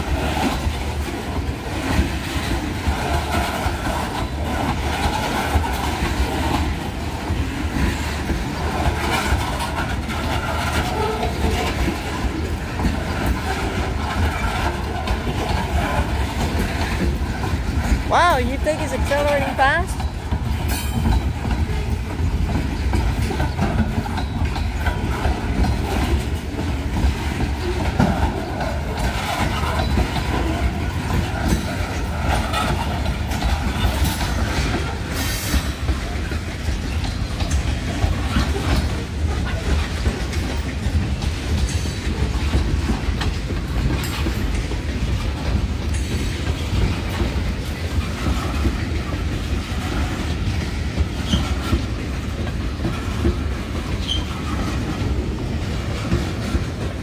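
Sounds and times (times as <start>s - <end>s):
train wheels rumbling on rail: 0.0s - 57.0s
wheels knocking over rail joints: 0.0s - 57.0s.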